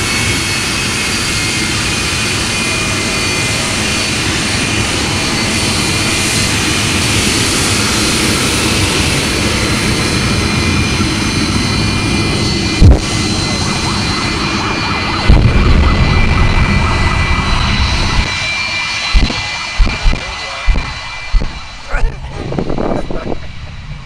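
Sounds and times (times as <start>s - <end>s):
jet engine whine: 0.0s - 24.0s.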